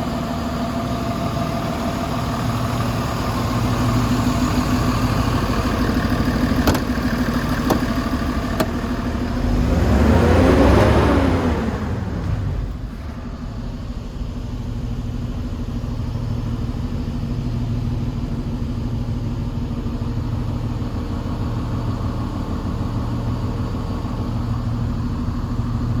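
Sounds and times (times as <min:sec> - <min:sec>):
diesel truck engine idling and revving: 0:00.0 - 0:26.0.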